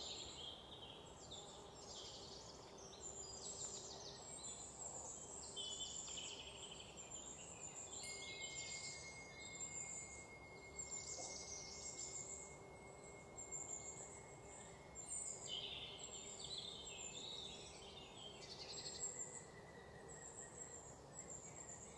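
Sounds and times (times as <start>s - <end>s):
small birds chirping and trilling: 0.0s - 21.9s
steady background hiss: 0.0s - 21.9s.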